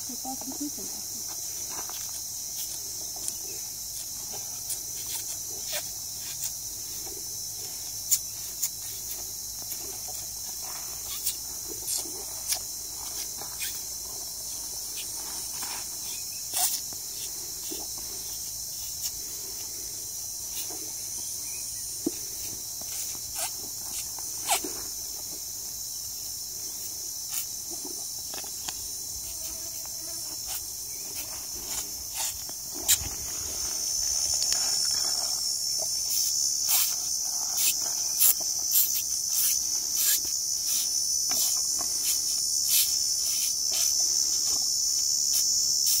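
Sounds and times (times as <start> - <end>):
insect chorus buzzing: 0.0 - 46.0.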